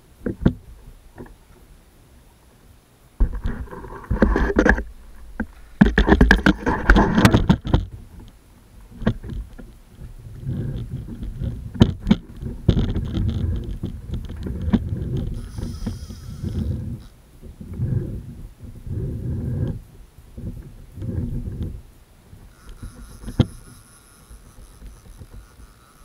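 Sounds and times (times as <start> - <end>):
kayak hull knocks and rattles: 0.2 - 1.4, 3.2 - 8.3, 8.9 - 19.8, 20.4 - 21.8, 22.4 - 25.8.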